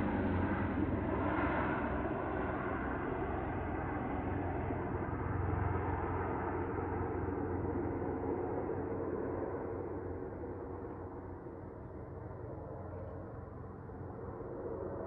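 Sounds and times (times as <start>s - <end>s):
helicopter rotor and engine drone: 0.0s - 15.0s.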